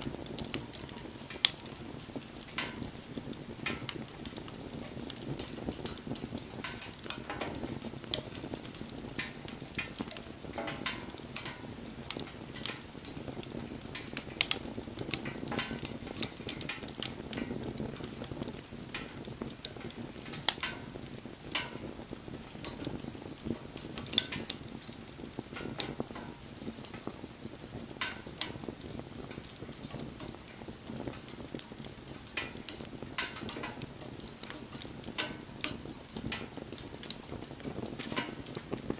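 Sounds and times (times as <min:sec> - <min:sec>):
low rush of flame: 0:00.0 - 0:38.9
wood fire crackling and popping: 0:00.0 - 0:38.9.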